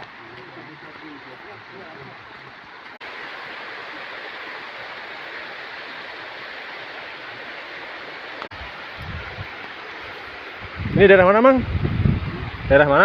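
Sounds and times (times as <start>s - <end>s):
river water flowing: 0.0s - 12.7s.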